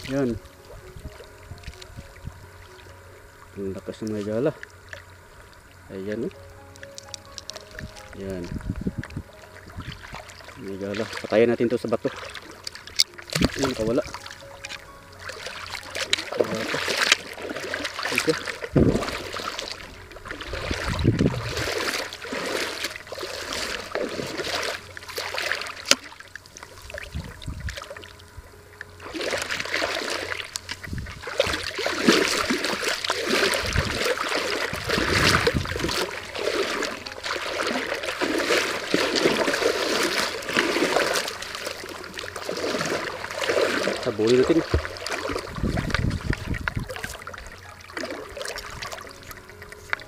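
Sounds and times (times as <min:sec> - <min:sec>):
wading through shallow seawater: 0:00.0 - 0:50.0.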